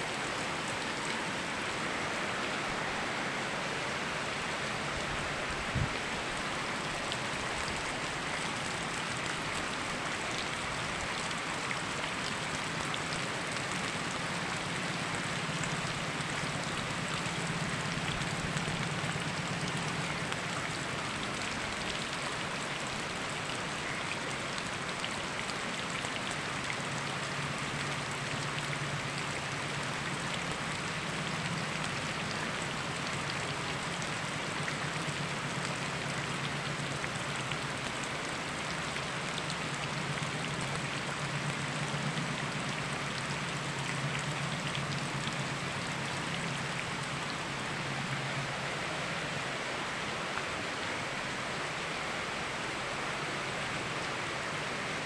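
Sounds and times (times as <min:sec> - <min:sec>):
raindrops ticking on surfaces: 0:00.0 - 0:02.8, 0:03.8 - 0:48.9
rain falling: 0:00.0 - 0:55.0
river water flowing: 0:00.0 - 0:55.0.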